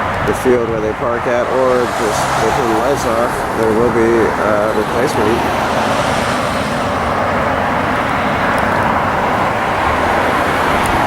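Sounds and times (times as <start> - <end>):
steady road traffic: 0.0 - 11.0.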